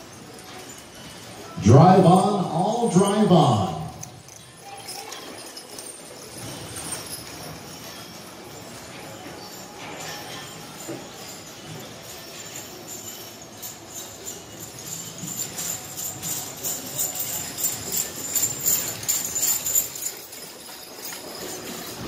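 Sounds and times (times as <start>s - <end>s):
harness jingling: 0.0s - 22.0s
horses trotting: 0.0s - 22.0s.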